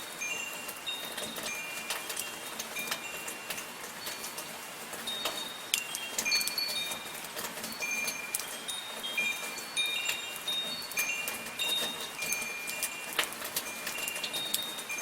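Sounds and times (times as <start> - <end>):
light rain hissing: 0.0 - 15.0
raindrops ticking: 0.0 - 15.0
wind chimes ringing: 0.0 - 15.0.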